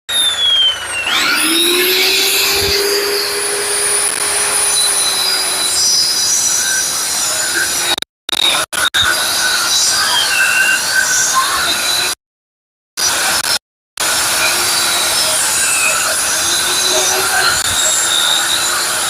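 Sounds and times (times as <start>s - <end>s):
concrete saw cutting concrete: 0.1s - 12.2s, 13.0s - 19.0s.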